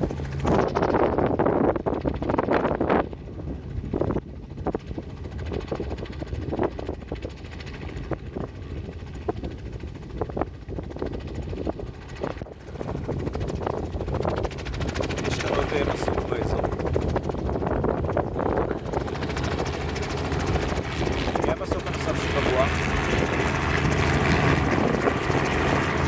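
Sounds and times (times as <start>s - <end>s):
helicopter rotor and engine rumble: 0.0s - 26.0s
wind buffeting microphone: 0.0s - 26.0s.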